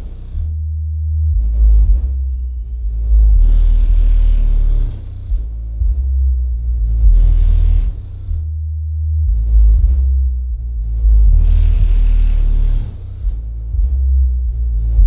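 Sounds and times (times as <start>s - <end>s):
deep bass line: 0.0s - 15.0s
loud dub music: 0.0s - 15.0s.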